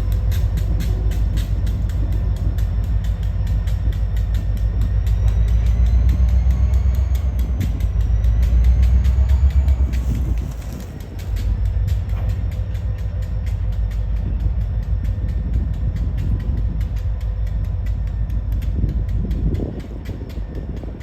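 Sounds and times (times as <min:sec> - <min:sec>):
locomotive engine rumble: 0:00.0 - 0:21.0
wheels clicking over rails: 0:00.0 - 0:21.0.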